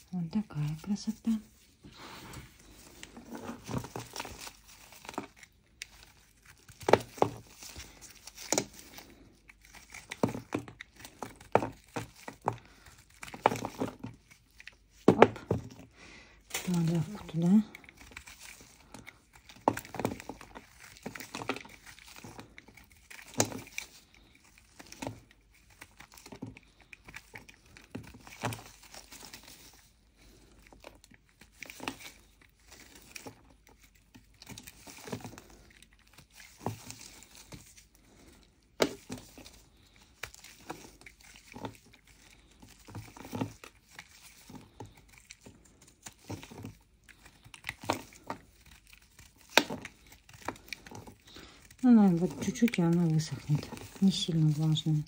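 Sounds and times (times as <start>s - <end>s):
clay crumbs crackling: 0.0s - 55.0s.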